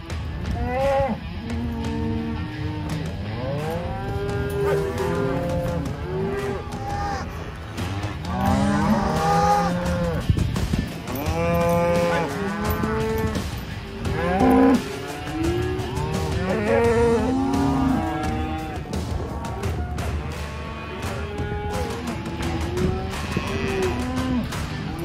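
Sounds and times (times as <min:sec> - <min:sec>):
cattle mooing: 0:00.0 - 0:10.3, 0:11.1 - 0:25.0.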